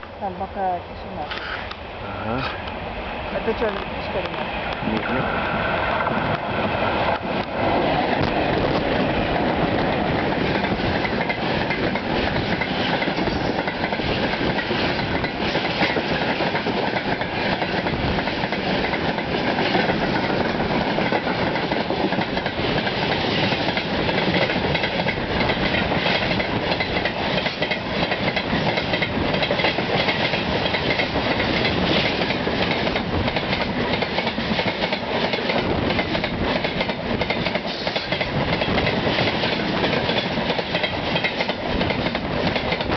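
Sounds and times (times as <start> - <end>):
freight train wheels over rail joints: 0.0 - 42.9.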